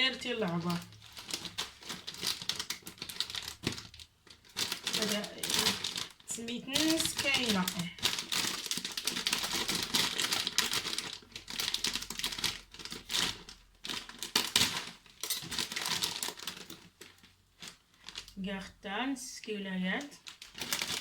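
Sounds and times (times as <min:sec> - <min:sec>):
plastic packet crinkling: 0:00.0 - 0:18.4, 0:20.2 - 0:21.0.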